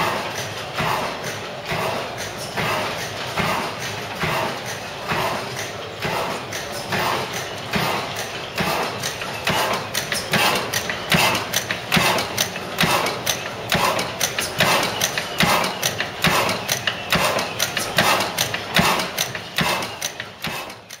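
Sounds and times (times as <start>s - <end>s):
stationary gas engine clattering: 0.0s - 21.0s.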